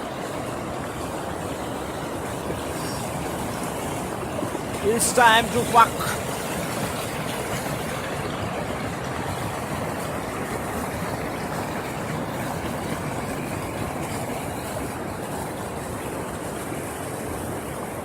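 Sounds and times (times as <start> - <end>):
fast-flowing river rushing: 0.0 - 18.0.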